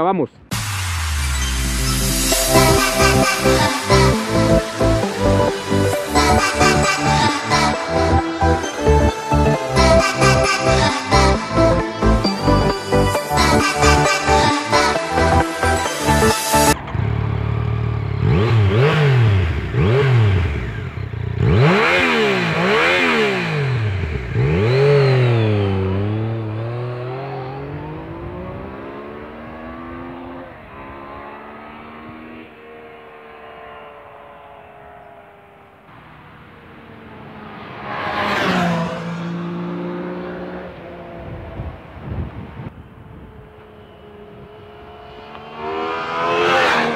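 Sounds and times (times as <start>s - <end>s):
motorcycle engine revving: 0.4s - 46.9s.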